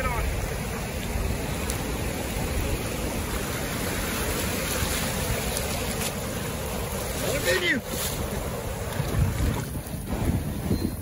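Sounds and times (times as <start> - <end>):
surf washing over sand: 0.0 - 11.0
wind rumbling on microphone: 0.0 - 11.0.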